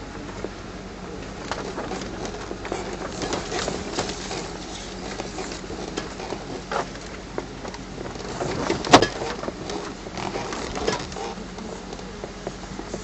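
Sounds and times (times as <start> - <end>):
low engine drone: 0.0 - 13.0
vehicle body rattling and knocking: 1.3 - 13.0.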